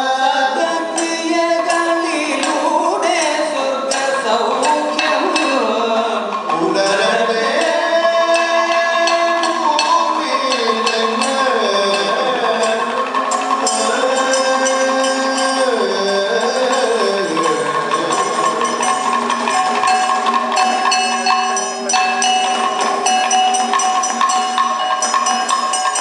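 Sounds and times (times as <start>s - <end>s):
person singing long notes: 0.0s - 23.3s
hand cymbals ringing: 0.0s - 26.0s.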